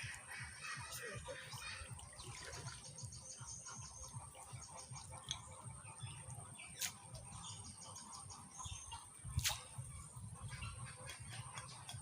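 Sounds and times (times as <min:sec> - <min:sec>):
birds trilling: 0:00.0 - 0:12.0.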